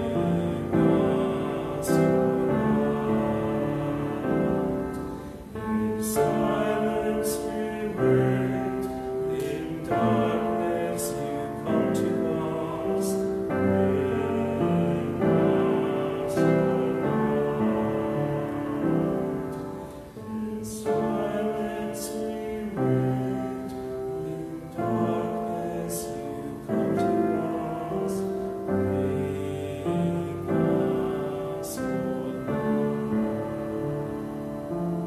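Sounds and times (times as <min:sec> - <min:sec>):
slow solo piano chords: 0:00.0 - 0:35.0.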